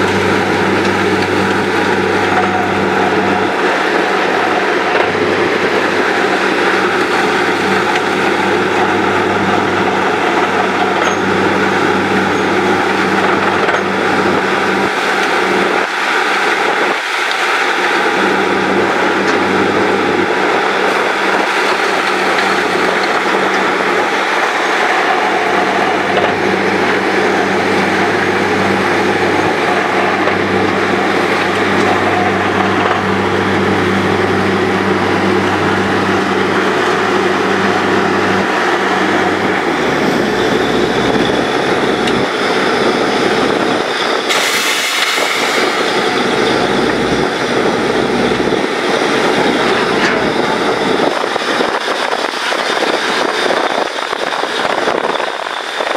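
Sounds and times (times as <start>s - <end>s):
drilling rig machine drone: 0.0s - 55.9s.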